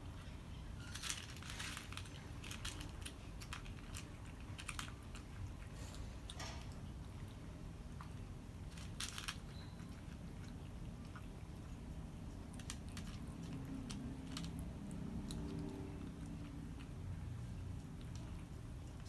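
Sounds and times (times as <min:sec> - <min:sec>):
cats crunching cat food: 0:00.0 - 0:19.0.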